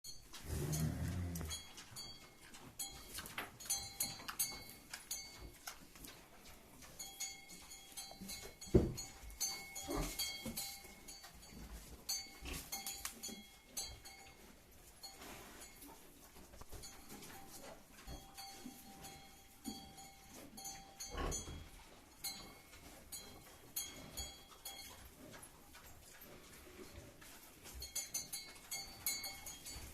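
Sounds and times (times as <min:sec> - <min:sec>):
farm animals: 0:00.1 - 0:29.9.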